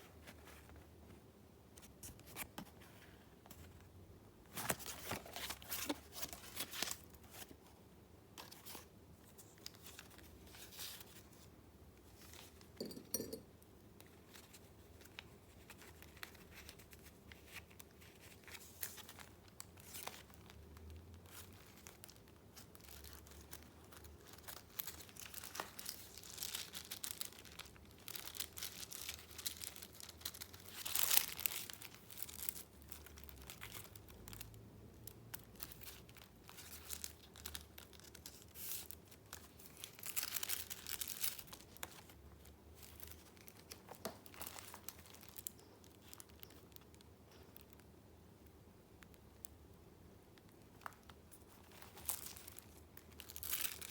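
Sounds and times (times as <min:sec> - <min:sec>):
paper rustling and crinkling: 0:04.5 - 0:07.7, 0:08.4 - 0:12.7, 0:14.1 - 0:34.5, 0:35.3 - 0:47.8, 0:50.7 - 0:53.9.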